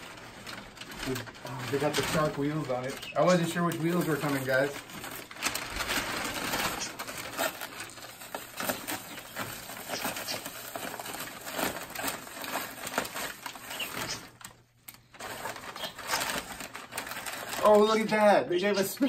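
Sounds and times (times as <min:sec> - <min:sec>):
paper and plastic rustling: 0:00.0 - 0:19.0.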